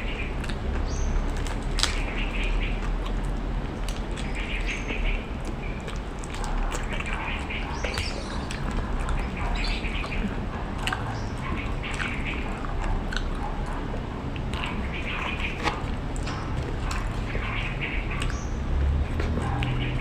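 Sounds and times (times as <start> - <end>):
person chewing food: 0.0 - 17.3, 18.1 - 19.8
steady low hum: 0.0 - 20.0.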